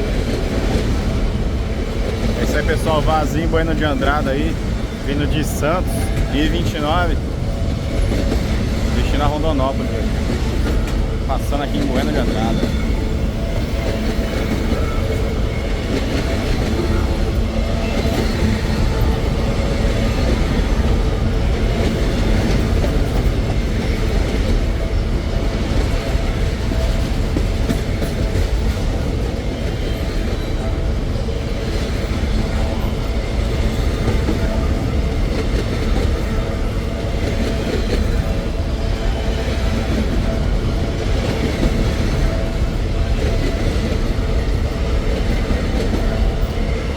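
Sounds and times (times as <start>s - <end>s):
train wheels clattering on rails: 0.0s - 46.9s.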